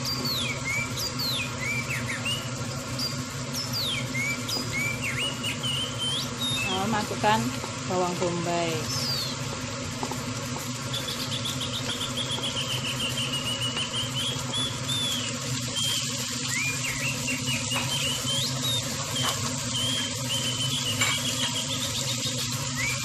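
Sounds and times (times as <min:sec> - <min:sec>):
onion sizzling in hot oil: 0:00.0 - 0:23.0.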